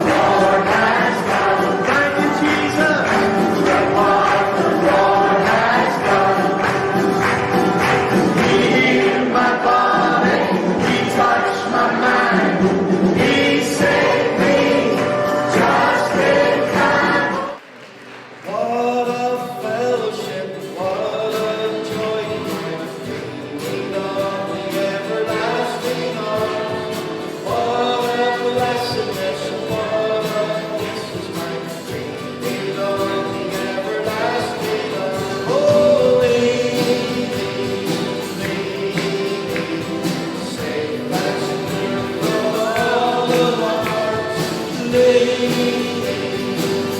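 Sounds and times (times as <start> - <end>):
choir singing gospel music: 0.0 - 46.9.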